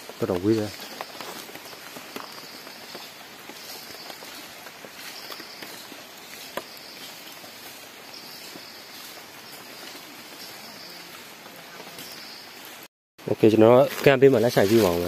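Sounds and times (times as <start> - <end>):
high insect buzz: 0.8 - 12.8.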